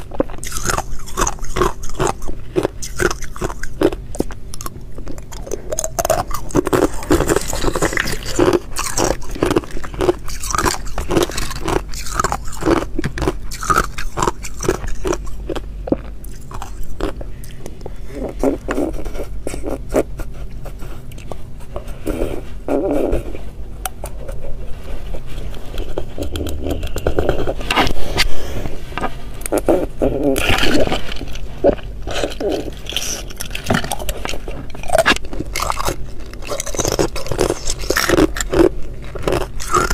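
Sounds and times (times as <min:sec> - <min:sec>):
ice being chewed: 0:00.0 - 0:23.3, 0:23.9 - 0:28.3, 0:28.9 - 0:39.9.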